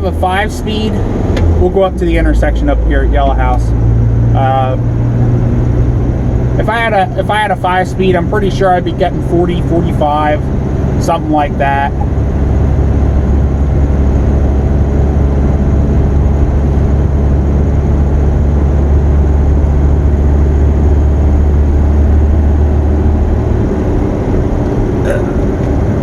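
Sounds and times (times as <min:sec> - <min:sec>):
diesel engine drone from inside cab: 0:00.0 - 0:26.0.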